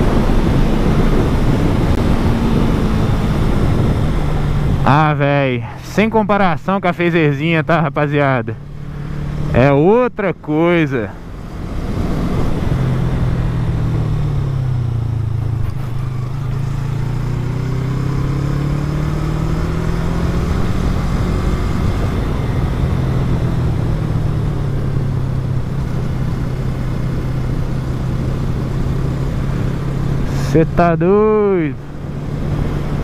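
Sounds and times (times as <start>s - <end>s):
motorcycle engine running: 0.0s - 5.4s, 11.1s - 33.0s.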